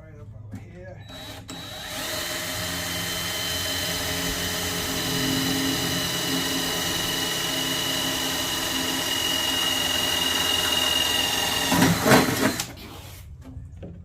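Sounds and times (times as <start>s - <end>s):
electric drill whining: 1.1s - 12.8s.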